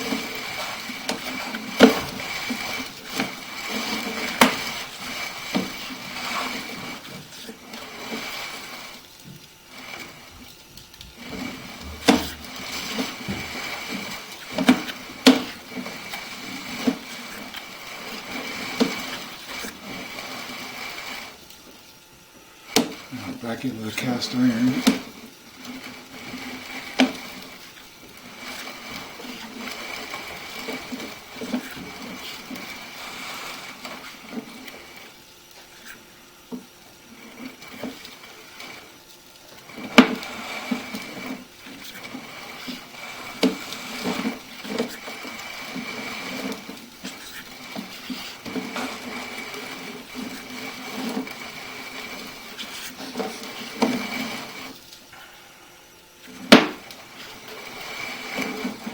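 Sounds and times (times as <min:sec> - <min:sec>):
cable and camera rattling in pipe: 0:00.0 - 0:22.0, 0:22.6 - 0:55.1, 0:56.2 - 0:58.9.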